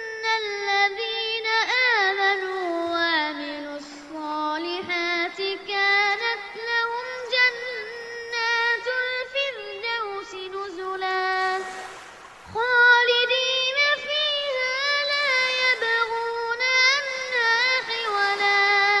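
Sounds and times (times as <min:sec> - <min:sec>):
boy chanting recitation: 0:00.0 - 0:11.9, 0:12.5 - 0:19.0.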